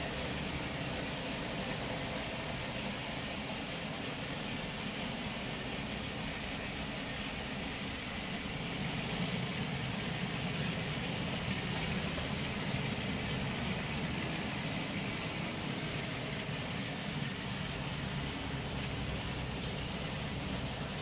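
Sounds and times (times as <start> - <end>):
model trains rumbling: 0.0 - 21.0.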